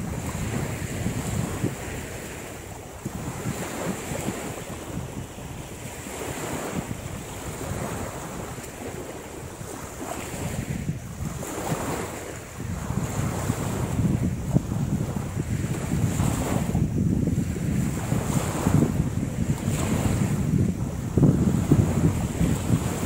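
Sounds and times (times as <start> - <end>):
small waves washing on shore: 0.0 - 23.0
wind buffeting microphone: 0.0 - 23.0.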